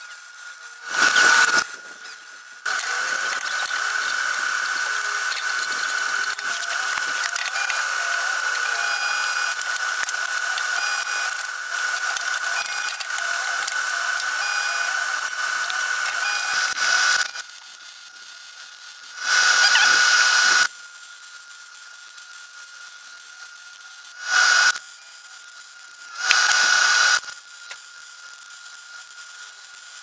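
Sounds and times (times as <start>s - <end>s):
welding arc crackling hiss: 0.0s - 30.0s.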